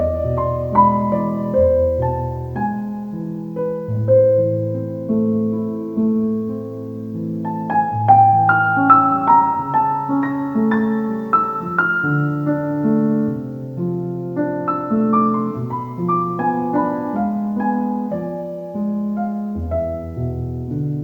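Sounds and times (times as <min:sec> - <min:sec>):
calm solo piano: 0:00.0 - 0:21.0.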